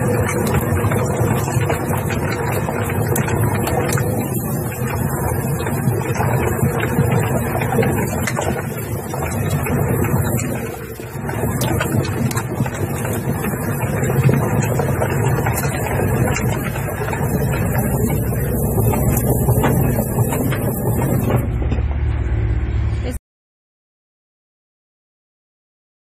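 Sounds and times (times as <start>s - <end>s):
irregular clicks and knocks: 0.0s - 21.9s
motor droning: 0.0s - 23.2s.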